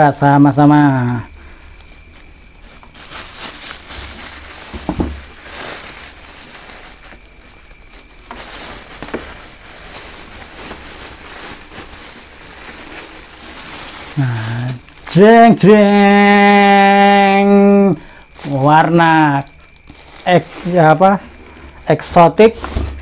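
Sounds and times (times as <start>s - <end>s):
plastic wrap crackling: 0.0s - 23.0s
cloth bag rustling: 0.8s - 21.8s.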